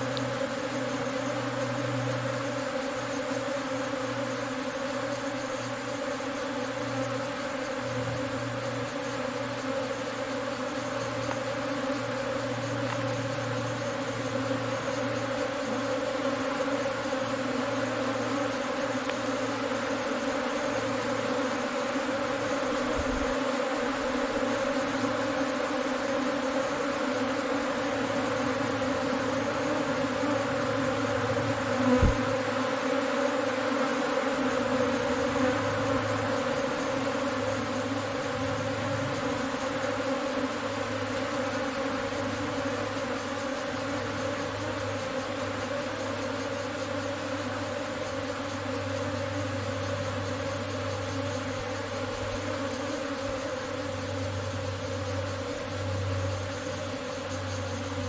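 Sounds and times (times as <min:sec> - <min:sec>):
bee swarm buzzing: 0:00.0 - 0:58.0.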